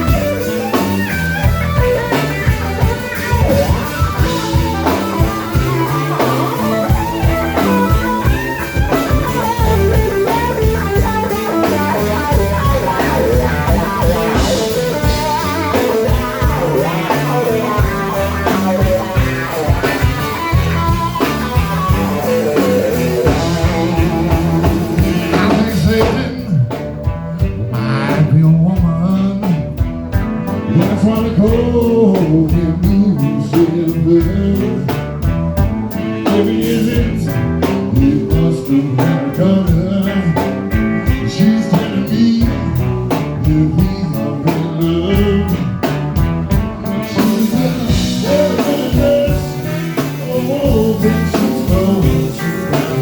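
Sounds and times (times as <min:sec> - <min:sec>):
drums: 0:00.0 - 0:53.0
electric guitar blues-rock: 0:00.0 - 0:53.0.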